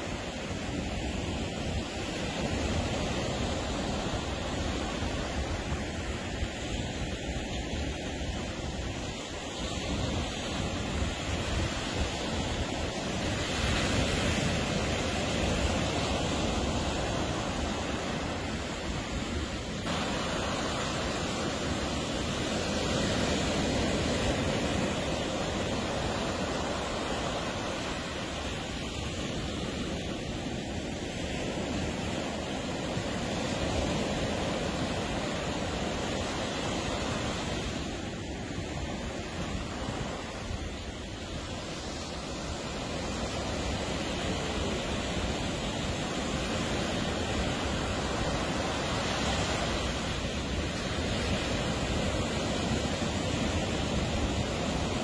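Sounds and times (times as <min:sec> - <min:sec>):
surf washing up a beach: 0:00.0 - 0:55.0.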